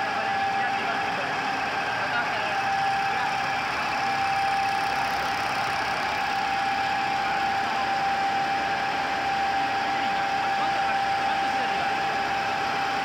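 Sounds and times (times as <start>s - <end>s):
label press machine running: 0.0s - 13.0s
steady machine whine: 0.0s - 13.0s.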